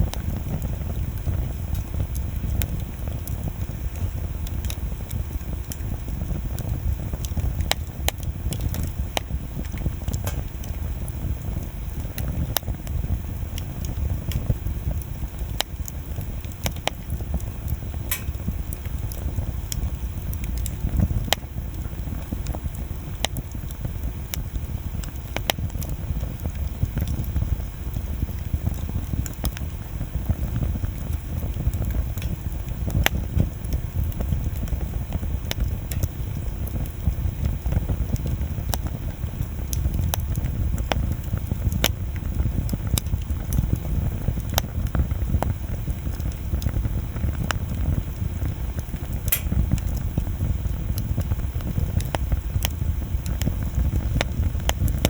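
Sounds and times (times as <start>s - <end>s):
bonfire crackling and popping: 0.0s - 55.0s
low fire rumble: 0.0s - 55.0s.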